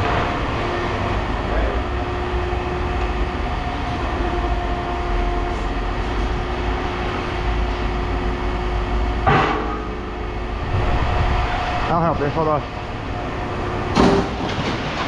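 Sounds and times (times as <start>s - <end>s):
low machinery rumble: 0.0s - 15.0s.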